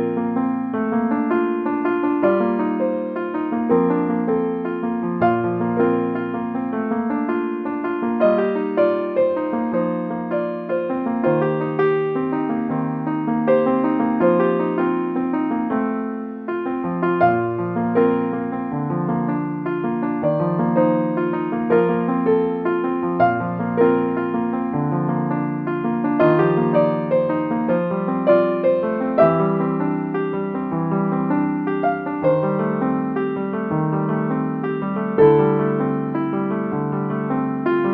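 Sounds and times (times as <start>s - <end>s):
slow piano music: 0.0s - 37.9s.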